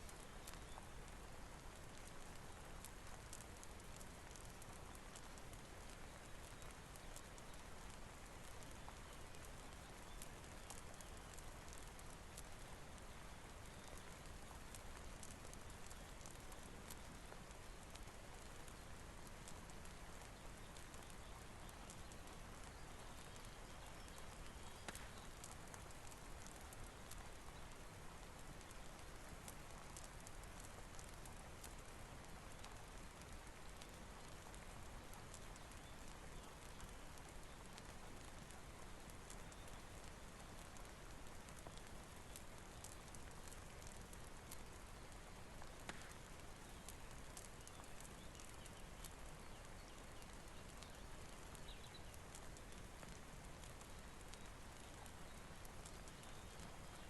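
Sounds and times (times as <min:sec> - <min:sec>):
fire crackling ticks: 0:00.0 - 0:57.0
soft rain hiss: 0:00.0 - 0:57.0.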